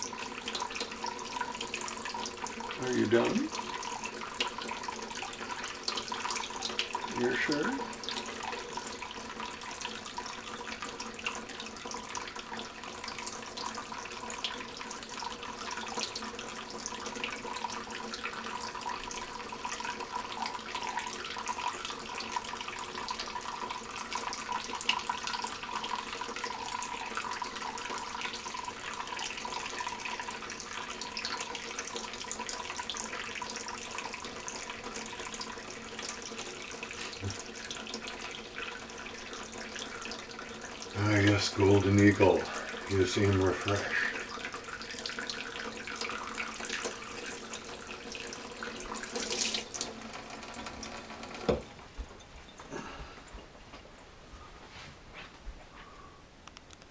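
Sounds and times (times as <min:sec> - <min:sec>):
bird bathing in water: 0:00.0 - 0:51.4
tap water running into sink: 0:00.0 - 0:52.6.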